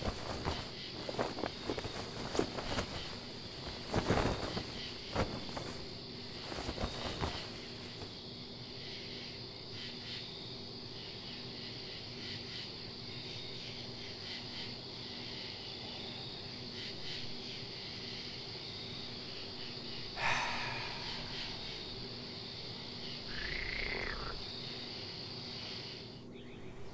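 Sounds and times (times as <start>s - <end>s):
crickets chirping: 0.0s - 26.9s
faint low hum: 0.0s - 26.9s.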